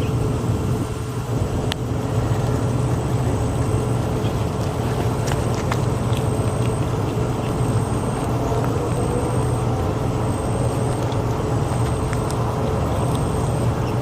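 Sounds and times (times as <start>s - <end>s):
faint steady hum: 0.0s - 14.0s
low mechanical rumble: 0.0s - 14.0s.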